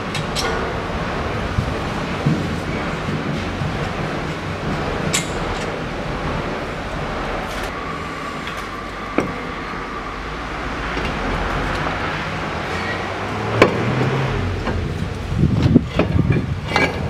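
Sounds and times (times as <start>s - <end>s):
traffic-like background noise: 0.0s - 17.0s.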